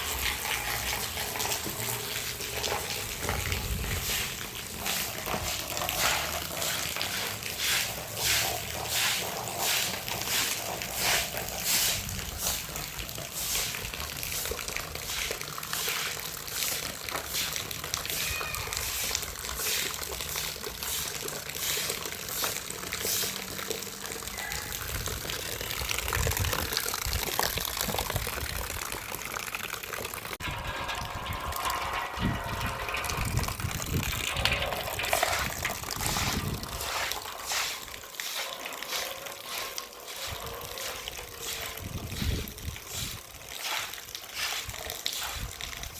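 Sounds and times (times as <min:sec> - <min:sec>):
water running and splashing: 0:00.0 - 0:45.9.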